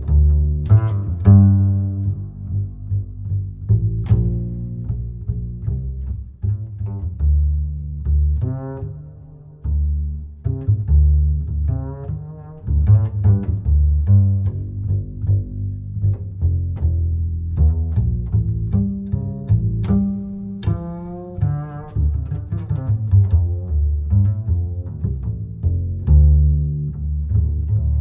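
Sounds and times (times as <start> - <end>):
low strings music: 0.0 - 28.0.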